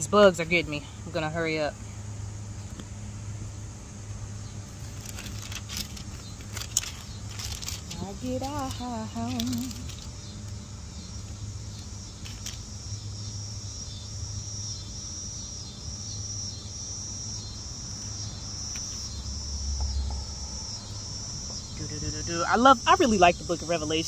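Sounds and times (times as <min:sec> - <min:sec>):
crickets chirping: 0:00.0 - 0:24.0
low background rumble: 0:00.0 - 0:24.0.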